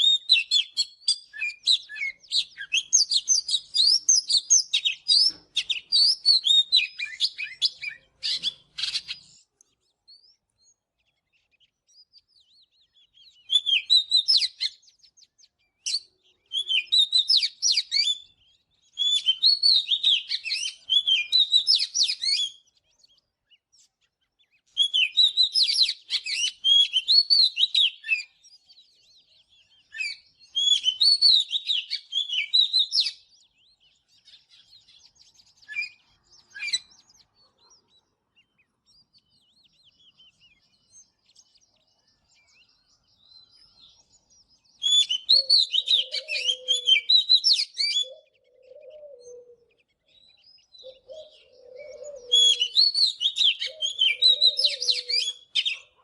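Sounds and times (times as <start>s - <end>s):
bird singing whistled phrases: 0.0s - 9.4s, 11.4s - 23.3s, 24.4s - 37.8s, 38.9s - 56.0s.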